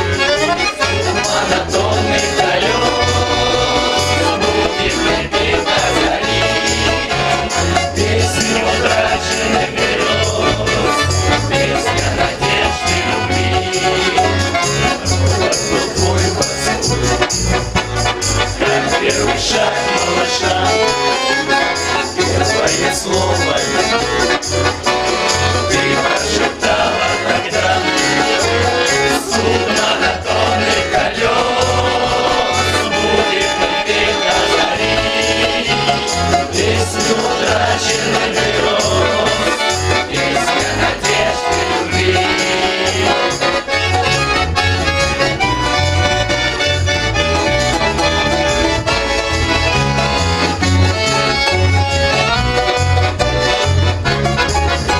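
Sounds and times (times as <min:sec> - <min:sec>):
instrumental music with bass beat: 0:00.0 - 0:54.9.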